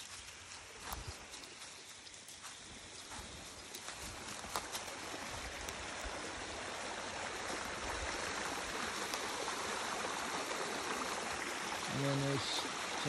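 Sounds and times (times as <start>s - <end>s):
creek splashing over stones: 0.0s - 13.0s.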